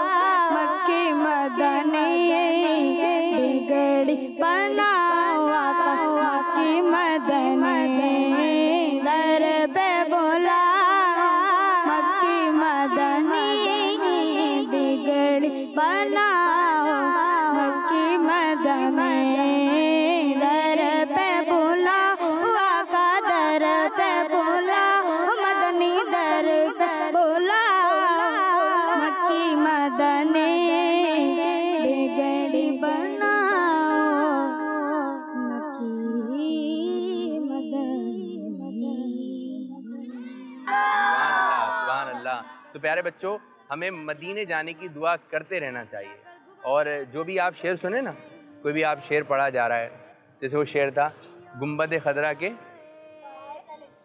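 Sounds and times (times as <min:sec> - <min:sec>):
high voice singing unaccompanied: 0:00.0 - 0:42.8, 0:51.2 - 0:54.0.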